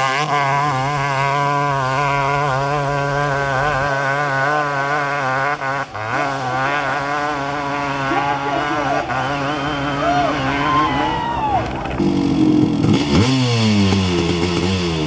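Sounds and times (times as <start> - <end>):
motorcycle engine revving high: 0.0 - 15.0.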